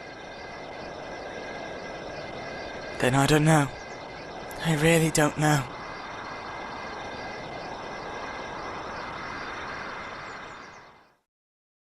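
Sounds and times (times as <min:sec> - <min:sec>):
steady background noise: 0:00.0 - 0:11.2.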